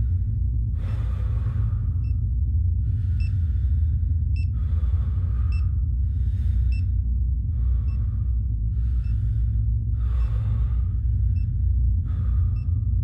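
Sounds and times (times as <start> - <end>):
low rumbling drone: 0.0 - 13.0
person breathing heavily: 0.0 - 13.0.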